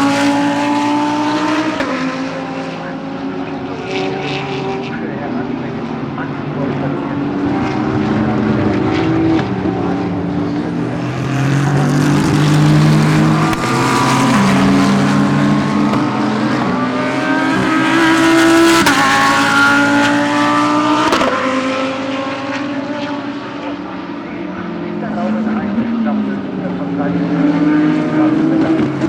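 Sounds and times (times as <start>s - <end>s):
car accelerating and upshifting: 0.0s - 29.0s
race cars passing at speed: 0.0s - 29.0s.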